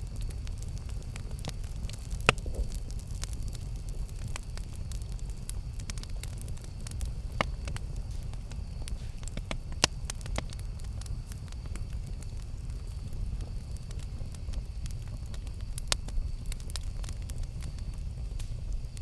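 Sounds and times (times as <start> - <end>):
burning wood crackling and popping: 0.0 - 19.0
fire low rumble: 0.0 - 19.0.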